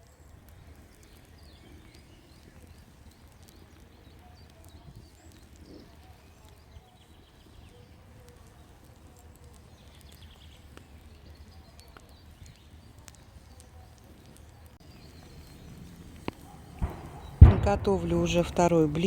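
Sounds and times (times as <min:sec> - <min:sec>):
campfire crackling: 0:00.0 - 0:19.0
faint birdsong: 0:00.0 - 0:19.0.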